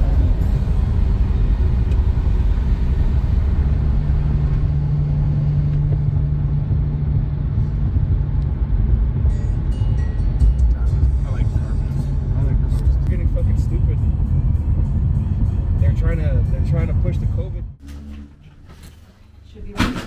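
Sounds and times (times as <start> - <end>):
steady low hum: 0.0 - 19.7
tyre and engine rumble: 0.0 - 20.0.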